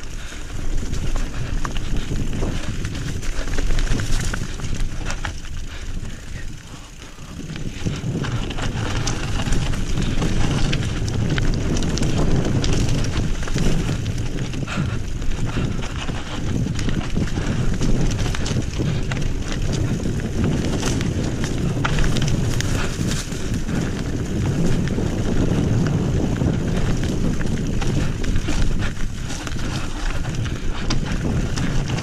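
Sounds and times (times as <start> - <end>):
mountain bike clattering: 0.0 - 32.0
tyres on rough ground: 0.0 - 32.0
wind buffeting microphone: 0.0 - 32.0.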